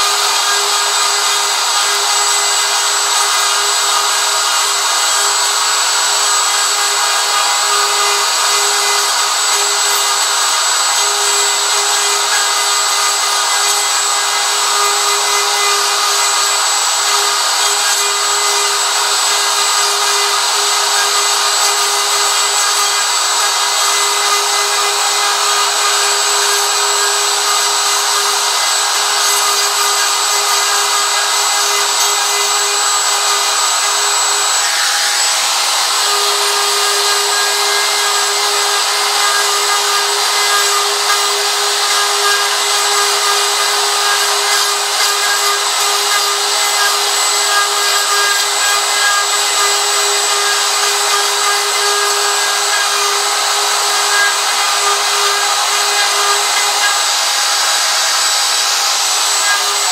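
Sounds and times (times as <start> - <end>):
router bit cutting wood: 0.0 - 59.9
router motor whine: 0.0 - 59.9.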